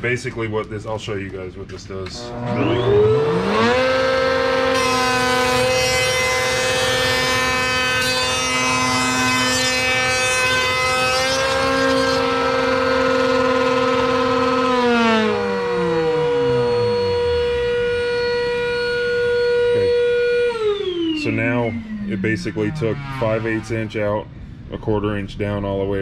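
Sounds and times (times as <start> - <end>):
router motor whining: 2.1 - 24.0
second motor whine: 2.1 - 24.7.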